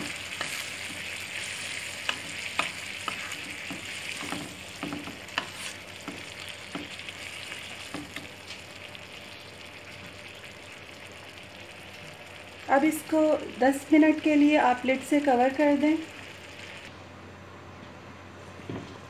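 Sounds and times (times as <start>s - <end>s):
food sizzling in a pan: 0.0s - 16.9s.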